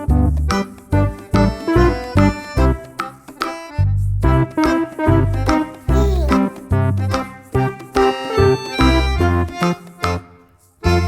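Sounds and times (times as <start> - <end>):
bouncy keyboard tune with bass: 0.0 - 11.0.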